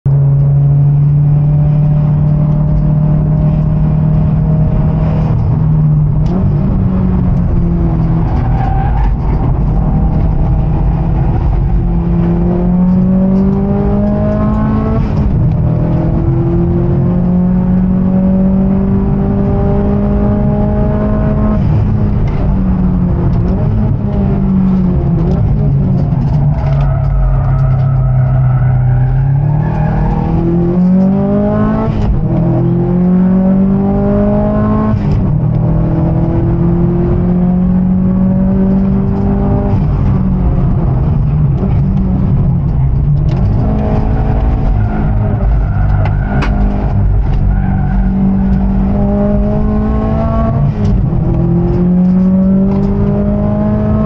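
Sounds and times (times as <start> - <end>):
car engine drone: 0.0 - 54.0
road and wind noise: 0.0 - 54.0.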